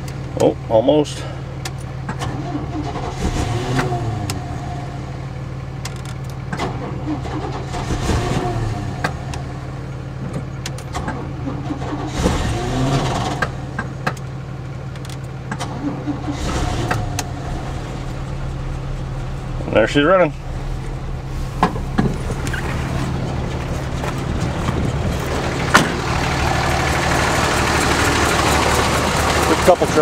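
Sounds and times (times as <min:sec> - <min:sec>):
diesel engine idling: 0:00.0 - 0:30.0
engine cranking: 0:01.6 - 0:04.7, 0:05.8 - 0:09.5, 0:10.2 - 0:30.0.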